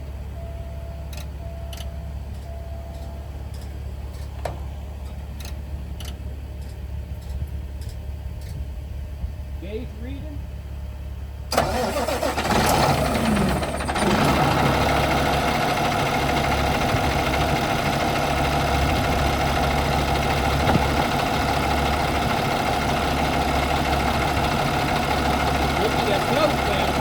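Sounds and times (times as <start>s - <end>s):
diesel engine idling: 0.0s - 27.0s
diesel truck engine cranking: 1.0s - 8.6s, 11.4s - 27.0s.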